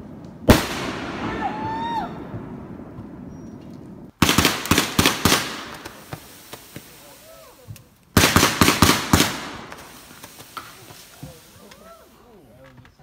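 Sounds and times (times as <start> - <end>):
fireworks bangs and crackles: 0.0 - 13.0
faint fireworks pops: 0.2 - 13.0.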